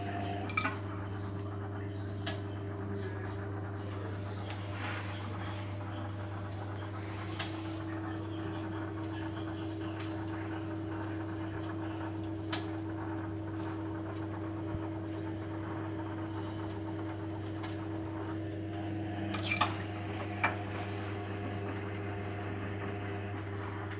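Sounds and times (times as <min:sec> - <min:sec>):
washing machine motor hum: 0:00.0 - 0:23.9.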